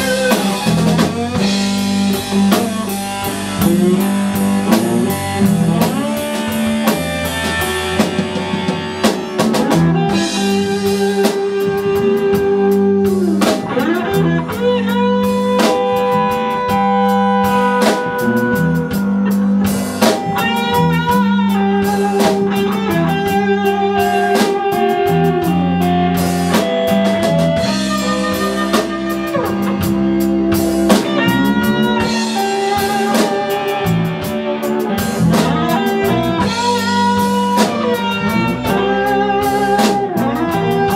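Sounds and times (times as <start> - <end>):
bass line: 0.0 - 40.9
drum kit: 0.0 - 40.9
electric guitar lead: 0.0 - 40.9.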